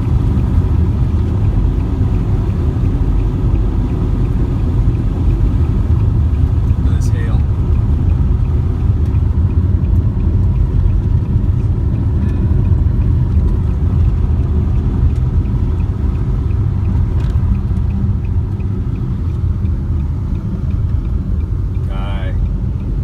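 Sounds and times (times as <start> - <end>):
faint regular ticking: 0.0 - 23.0
road and engine rumble: 0.0 - 23.0.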